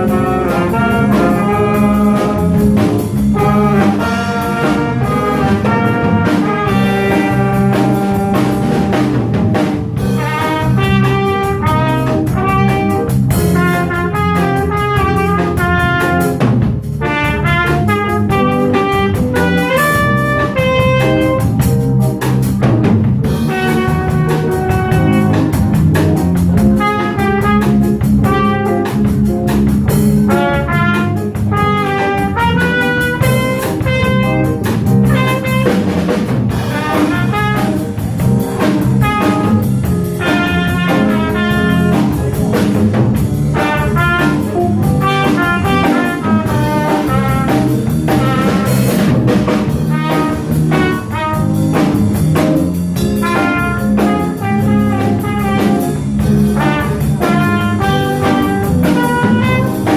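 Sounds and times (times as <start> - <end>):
horn melody: 0.0 - 59.9
small jazz group playing: 0.0 - 59.9
walking bass: 0.0 - 59.9.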